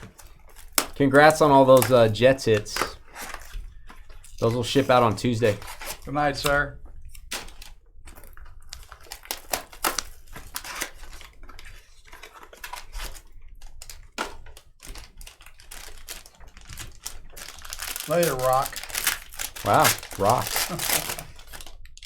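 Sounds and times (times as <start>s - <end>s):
wrappers crinkling: 0.0s - 22.0s.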